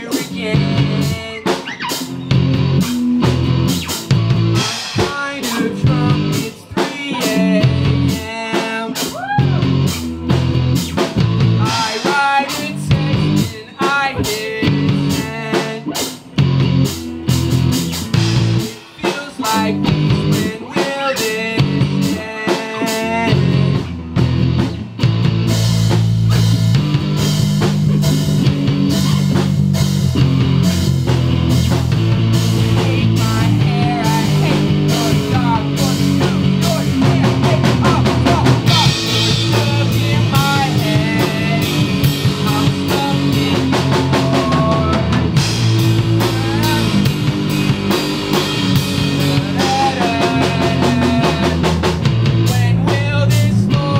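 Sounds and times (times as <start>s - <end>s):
picked guitar notes: 0.0s - 53.9s
rock band playing: 0.0s - 53.9s.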